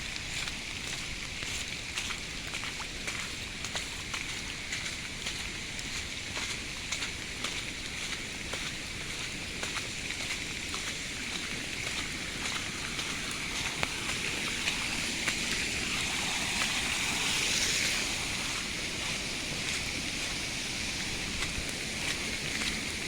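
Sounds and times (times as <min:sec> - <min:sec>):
rushing floodwater: 0:00.0 - 0:23.0.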